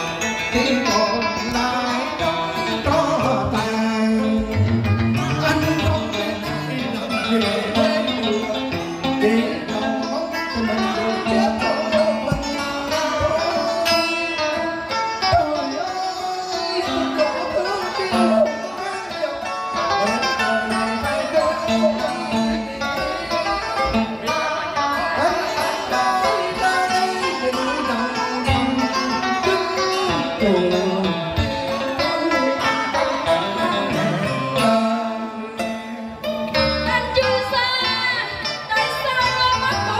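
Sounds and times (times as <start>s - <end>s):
plucked string band playing: 0.0s - 39.9s.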